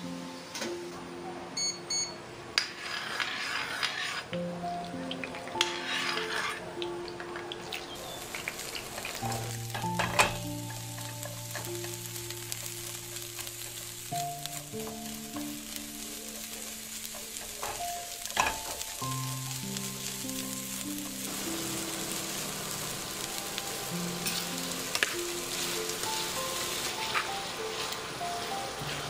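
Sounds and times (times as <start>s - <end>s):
onions sizzling in hot oil: 4.7s - 29.0s.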